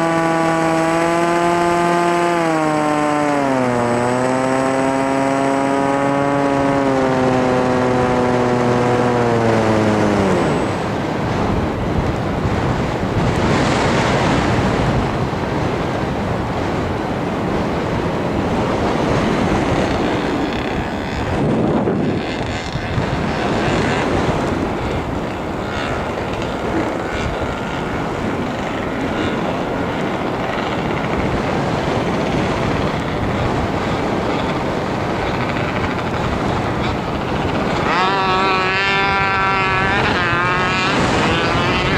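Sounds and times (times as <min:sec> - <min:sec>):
model aircraft motor whining: 0:00.0 - 0:41.9
wind noise on microphone: 0:00.0 - 0:41.9.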